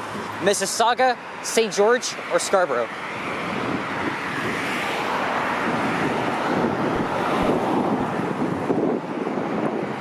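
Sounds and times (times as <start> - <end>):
road traffic rushing by: 0.0 - 10.0.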